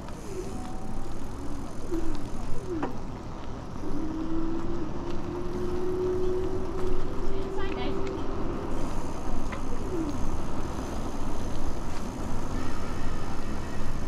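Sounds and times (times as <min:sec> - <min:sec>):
tyre noise on pavement: 0:00.0 - 0:14.0.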